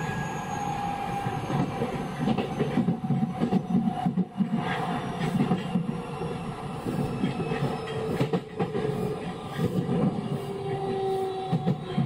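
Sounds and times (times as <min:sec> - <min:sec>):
train rolling rumble: 0:00.0 - 0:12.0
wheels clickety-clack on rails: 0:01.2 - 0:12.0.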